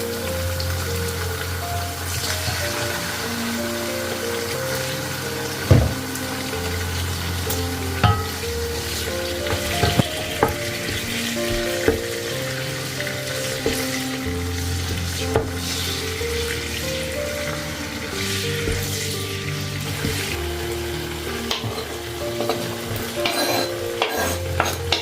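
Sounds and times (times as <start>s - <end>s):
food sizzling in a hot pan: 0.0s - 25.0s
soft background music: 0.0s - 25.0s.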